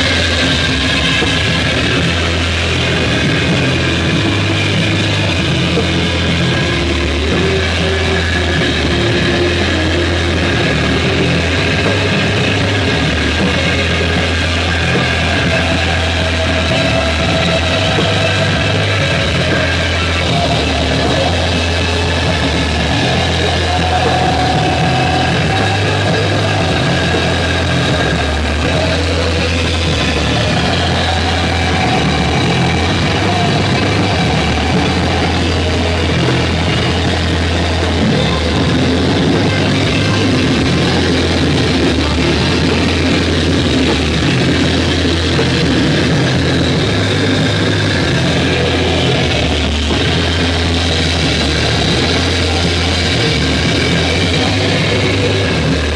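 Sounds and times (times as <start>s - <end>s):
bass line: 0.0s - 55.9s
drum kit: 0.0s - 55.9s
electric guitar: 0.0s - 55.9s.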